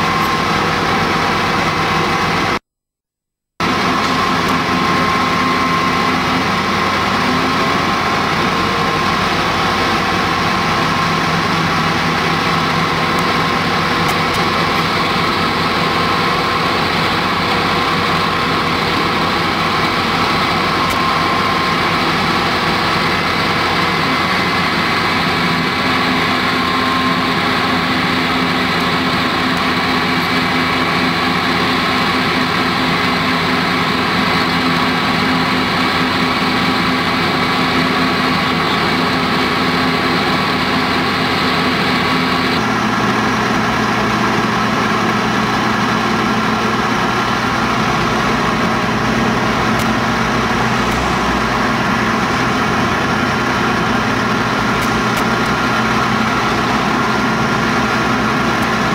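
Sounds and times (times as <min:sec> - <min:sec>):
diesel engines running: 0:00.0 - 0:02.6, 0:03.6 - 0:58.9.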